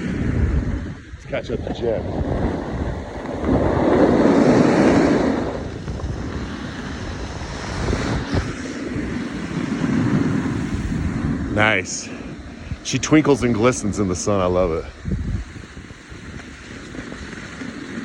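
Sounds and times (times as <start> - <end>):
snowboard sliding over snow: 0.0 - 18.0
wind buffeting microphone: 0.0 - 18.0.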